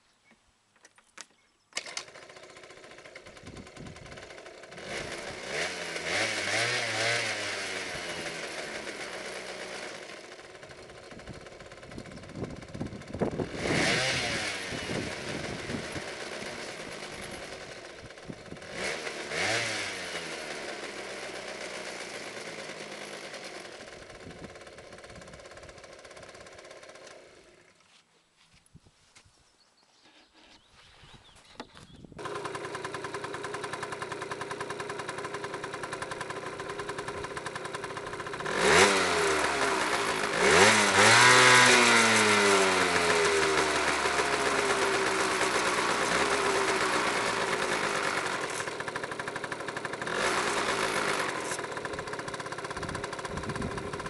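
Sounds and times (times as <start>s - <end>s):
scooter engine idling and revving: 1.8s - 28.0s, 31.3s - 54.0s.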